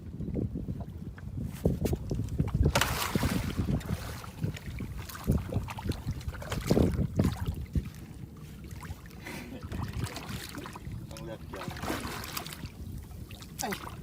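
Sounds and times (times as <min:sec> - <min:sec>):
water sloshing against hull: 0:00.0 - 0:14.0
wind buffeting microphone: 0:00.0 - 0:14.0.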